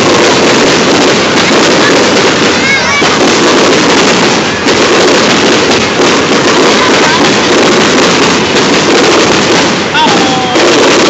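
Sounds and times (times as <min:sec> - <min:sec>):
fireworks bangs and crackle: 0:00.0 - 0:11.0.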